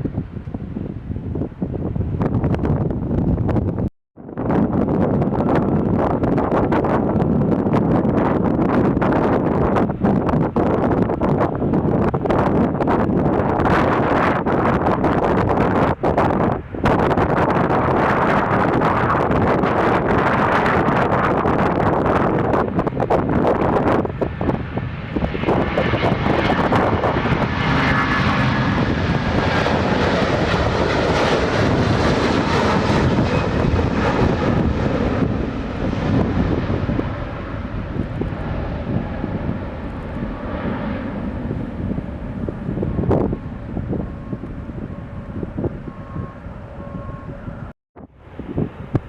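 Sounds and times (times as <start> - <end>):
airliner engines passing: 0.0 - 49.0.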